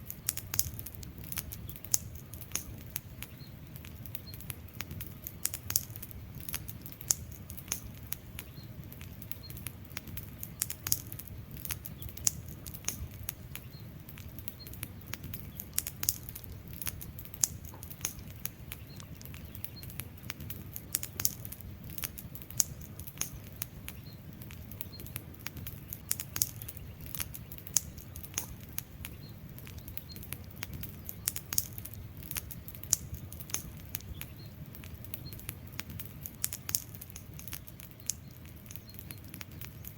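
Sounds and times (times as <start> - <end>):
low rumble of flames: 0.0 - 39.9
wood fire snaps and pops: 0.0 - 39.9.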